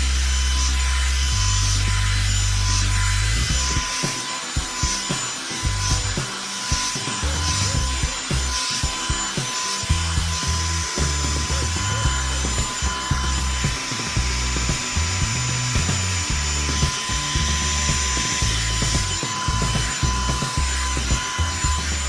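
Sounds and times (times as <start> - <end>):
hair dryer motor whine and air: 0.0 - 22.0.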